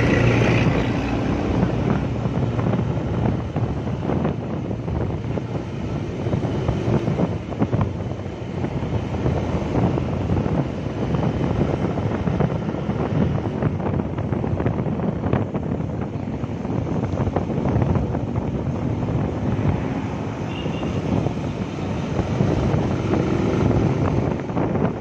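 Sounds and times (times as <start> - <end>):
road noise: 0.0 - 25.0
wind buffeting microphone: 0.0 - 25.0.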